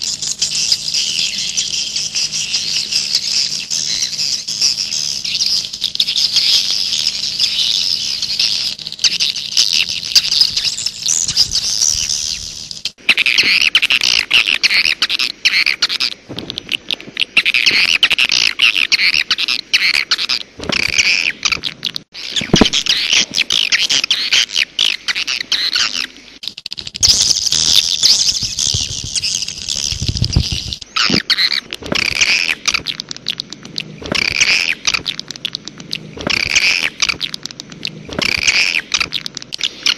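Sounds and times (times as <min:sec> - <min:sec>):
high-pitched birds twittering: 0:00.0 - 0:39.9.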